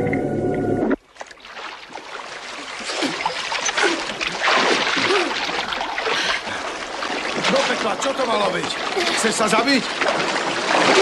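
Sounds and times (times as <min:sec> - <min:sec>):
small waves lapping: 0:01.0 - 0:11.0
swimmers splashing water: 0:01.1 - 0:11.0.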